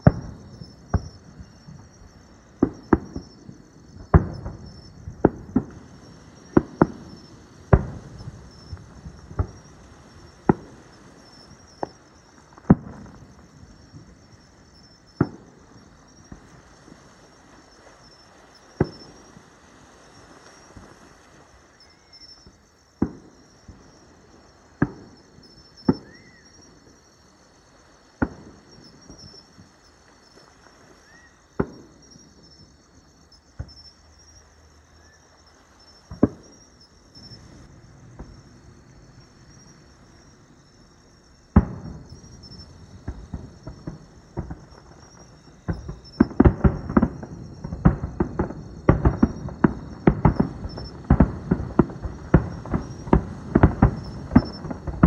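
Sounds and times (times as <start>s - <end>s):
fireworks booming: 0.0s - 27.1s, 27.9s - 32.8s, 33.4s - 34.5s, 35.8s - 55.0s
insects chirring: 0.0s - 55.0s.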